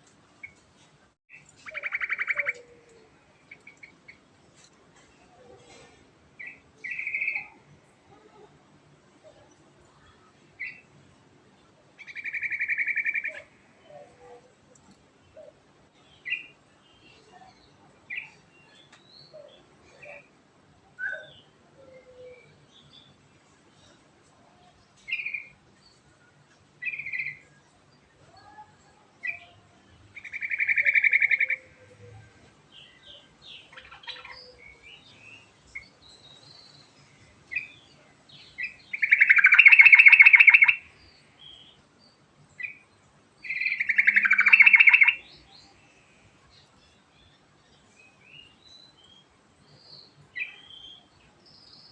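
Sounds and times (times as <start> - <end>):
bird singing with rolling trills: 1.3 - 4.3, 5.0 - 8.5, 11.6 - 14.6, 15.3 - 51.9.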